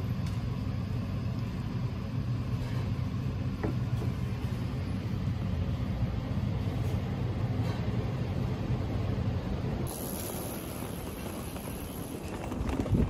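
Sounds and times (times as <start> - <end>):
motor traffic rumble: 0.0 - 13.0.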